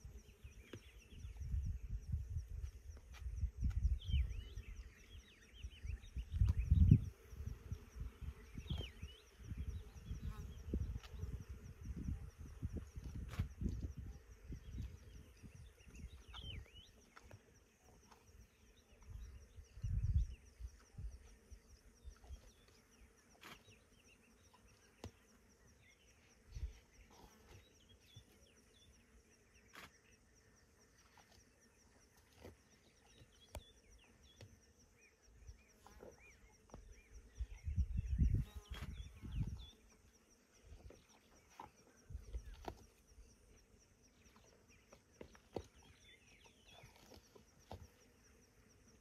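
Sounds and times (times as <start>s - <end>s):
high insect drone: 0.0s - 49.0s.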